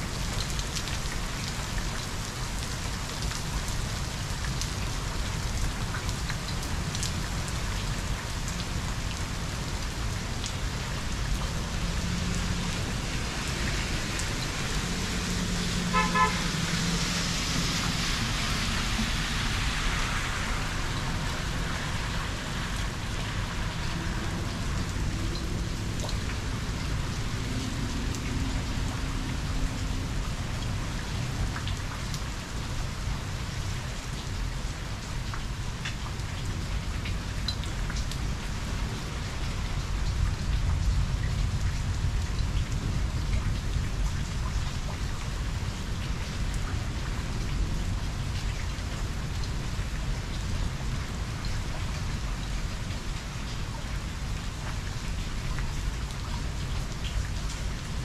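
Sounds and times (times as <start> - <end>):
rain falling on pavement: 0.0 - 58.0.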